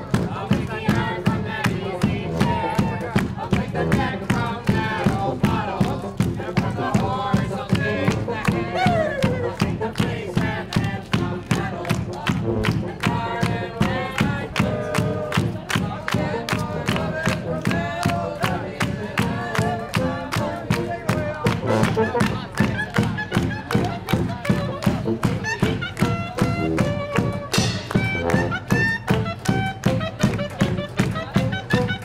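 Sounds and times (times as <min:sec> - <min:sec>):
group singing: 0:00.0 - 0:26.1
rhythmic hand-clapping: 0:00.0 - 0:32.0.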